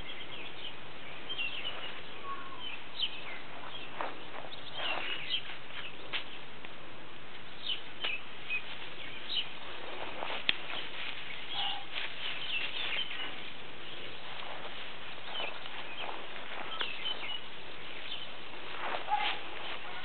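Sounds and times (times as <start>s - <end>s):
small birds chirping: 0.0s - 6.7s, 7.3s - 20.0s
steady hiss: 0.0s - 20.0s.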